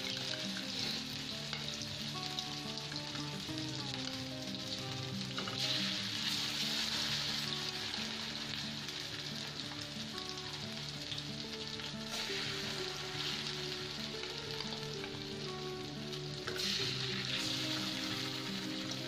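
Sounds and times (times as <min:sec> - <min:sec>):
background music: 0:00.0 - 0:19.0
fish sizzling in hot oil: 0:00.0 - 0:19.0.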